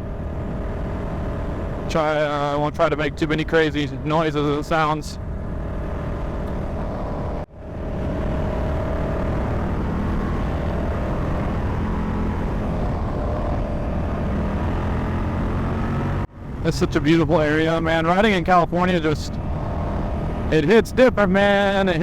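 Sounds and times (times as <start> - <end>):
heavy wind noise: 0.0 - 22.0
motorcycle engine drone: 0.0 - 22.0.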